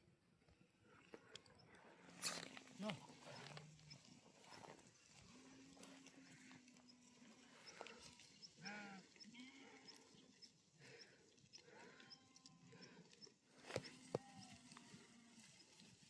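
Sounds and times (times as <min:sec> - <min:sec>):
faint livestock bleating: 0:02.1 - 0:16.0.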